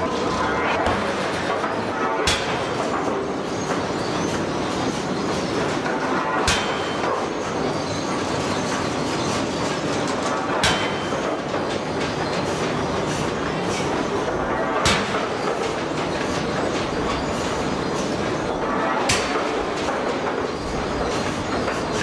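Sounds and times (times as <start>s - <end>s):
air forging hammer running: 0.0s - 22.0s.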